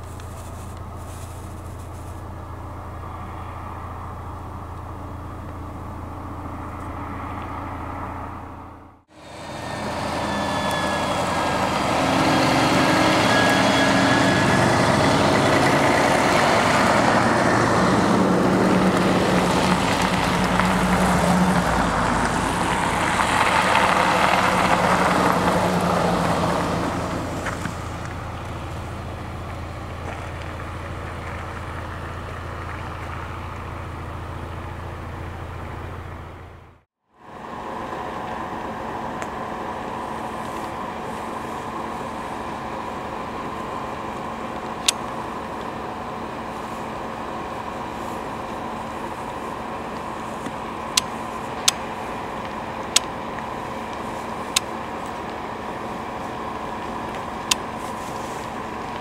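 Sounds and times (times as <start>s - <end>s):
emergency vehicles driving past: 0.2s - 36.5s, 37.2s - 59.0s.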